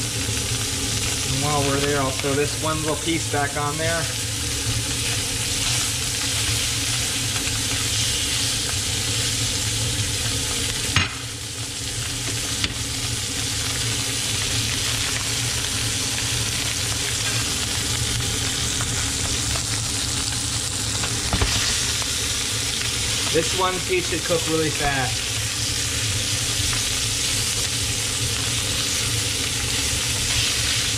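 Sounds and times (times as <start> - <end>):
fish sizzling in pan: 0.0 - 30.9.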